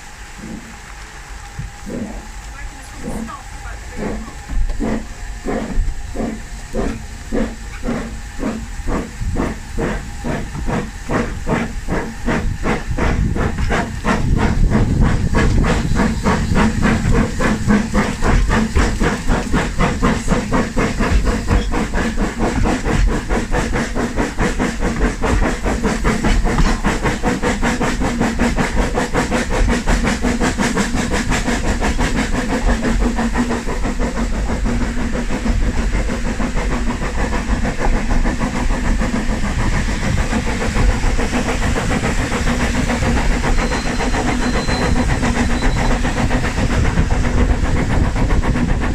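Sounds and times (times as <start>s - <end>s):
steam hissing: 0.0s - 48.9s
steam locomotive chuffing: 0.0s - 48.9s.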